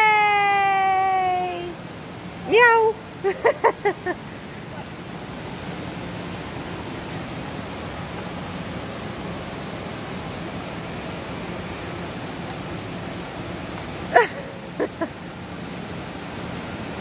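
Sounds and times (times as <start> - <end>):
steady indoor rushing noise: 0.0 - 17.0.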